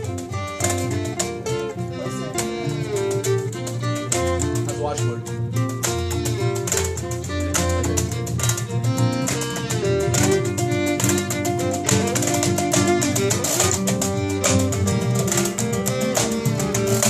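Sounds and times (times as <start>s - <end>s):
fiddle melody: 0.0s - 17.0s
strummed acoustic guitars: 0.0s - 17.0s
upright bass: 0.0s - 17.0s.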